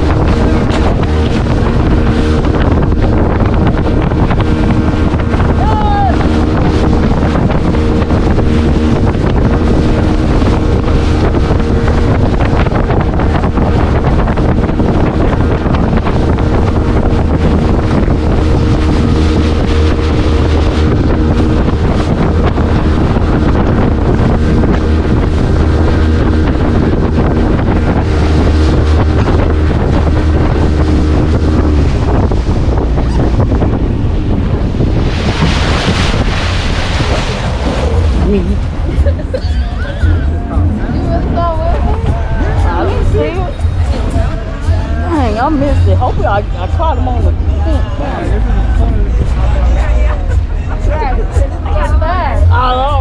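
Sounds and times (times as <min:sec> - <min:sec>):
speedboat engine drone: 0:00.0 - 0:53.0
wind buffeting microphone: 0:00.0 - 0:53.0.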